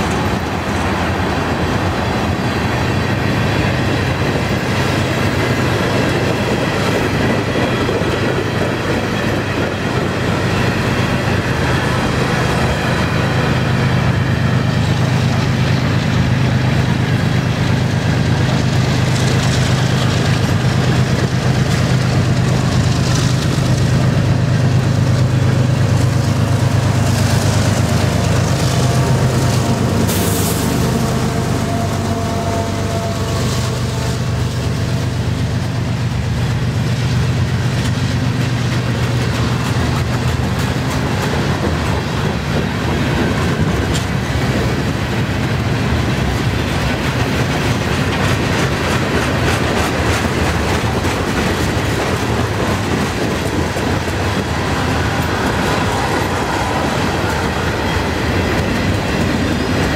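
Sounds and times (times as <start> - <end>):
low diesel locomotive drone: 0.0 - 59.9
train wheels clicking over rail joints: 0.0 - 59.9.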